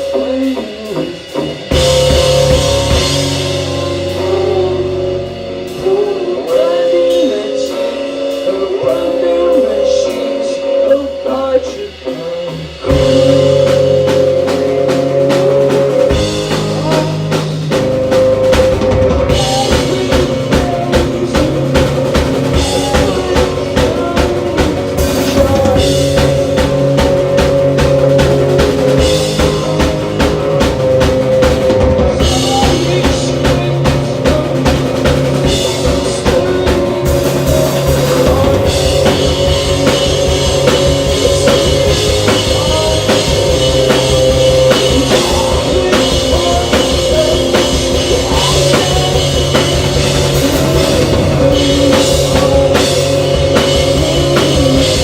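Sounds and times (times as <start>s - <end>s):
fast drumming: 0.0s - 55.0s
rock band playing: 0.0s - 55.0s.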